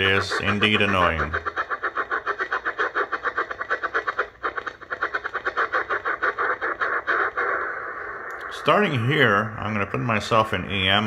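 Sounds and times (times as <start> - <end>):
shortwave radio static hiss: 0.0 - 11.0.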